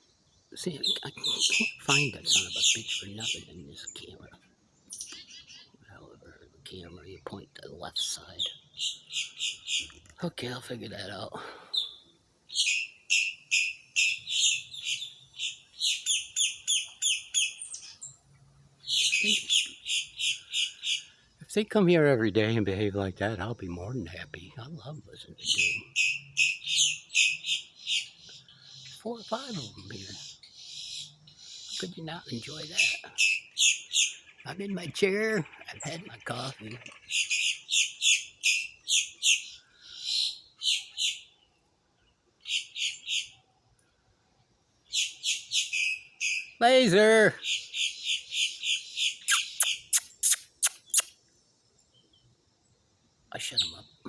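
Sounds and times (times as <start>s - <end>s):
birds giving rapid high calls: 0.6s - 21.4s, 24.0s - 41.6s, 42.4s - 43.4s, 44.8s - 51.3s, 53.3s - 54.0s.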